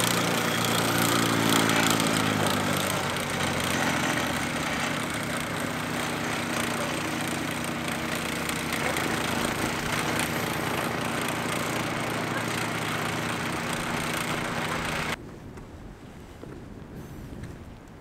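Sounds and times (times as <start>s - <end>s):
engine running: 0.0s - 15.2s.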